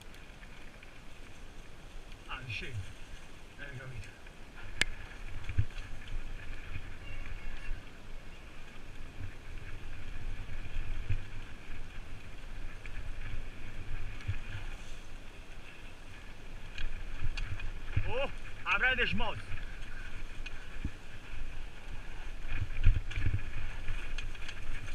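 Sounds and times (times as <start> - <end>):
wind and tyre noise: 0.0 - 24.9.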